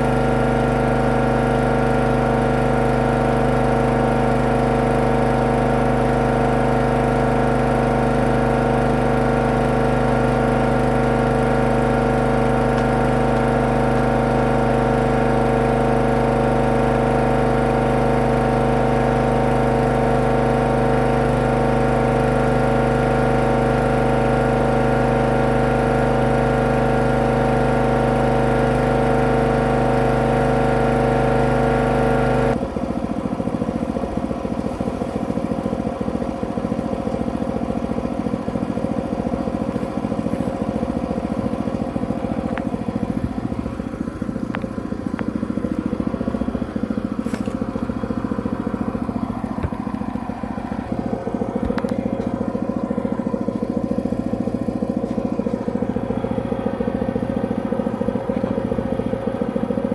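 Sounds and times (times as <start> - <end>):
drain cleaning machine motor running: 0.0 - 59.9.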